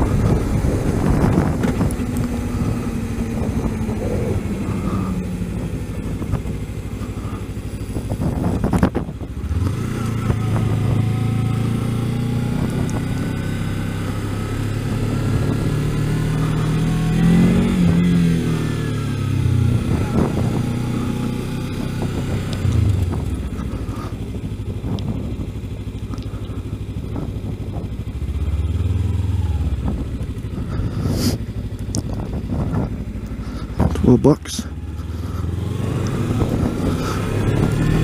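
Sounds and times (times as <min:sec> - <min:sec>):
motorcycle engine riding: 0:00.0 - 0:38.0.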